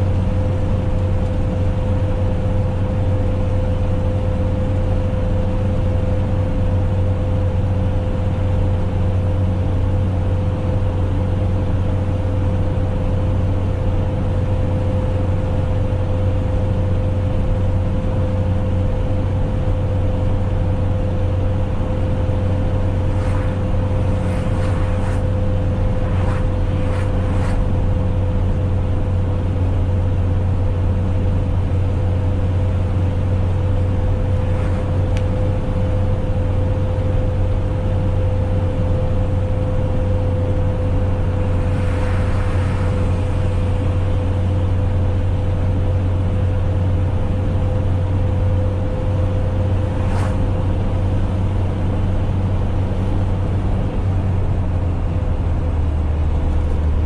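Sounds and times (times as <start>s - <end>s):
constant whine: 0.0s - 57.0s
truck engine and road drone: 0.0s - 57.0s.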